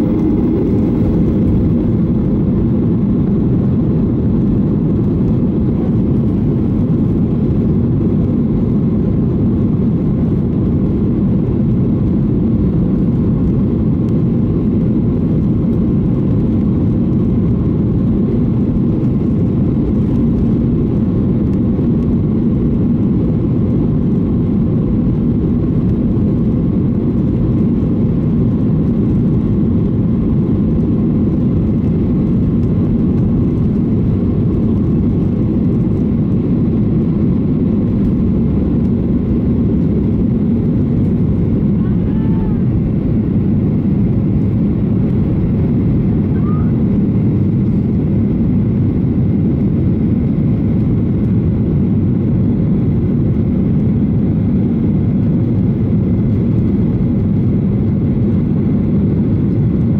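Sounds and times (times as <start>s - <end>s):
aircraft cabin low rumble: 0.0s - 59.9s.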